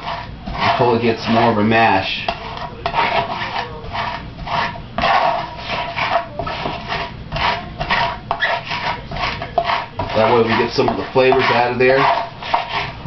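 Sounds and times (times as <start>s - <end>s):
knife scraping on cutting board: 0.0s - 13.0s.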